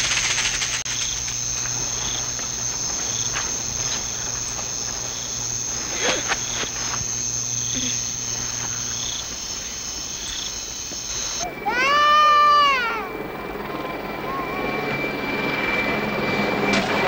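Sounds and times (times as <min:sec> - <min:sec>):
crickets trilling: 0:00.0 - 0:16.6.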